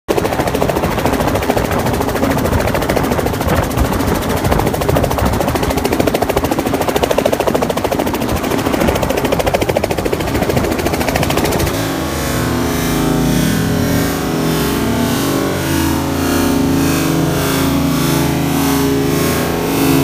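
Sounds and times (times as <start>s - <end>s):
helicopter engine drone: 0.1s - 20.0s
helicopter rotor chopping: 0.1s - 20.0s
rush of rotor downwash: 0.1s - 20.0s.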